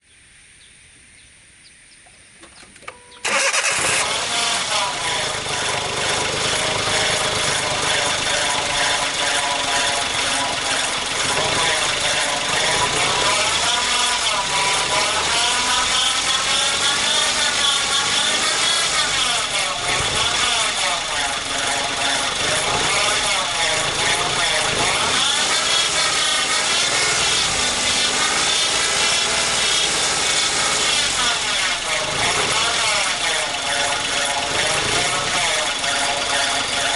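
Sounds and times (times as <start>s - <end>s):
alternator rubbing whine: 2.8s - 36.9s
car engine running: 3.2s - 36.9s.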